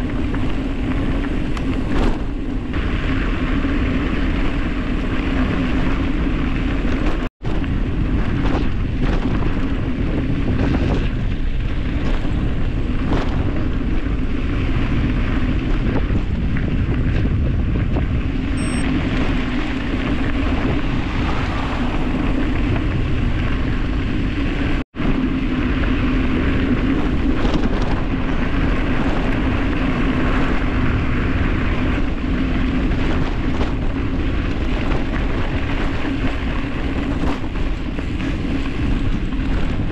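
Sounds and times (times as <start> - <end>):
tyres rumbling on gravel: 0.0 - 39.9
wind rushing over microphone: 0.0 - 39.9.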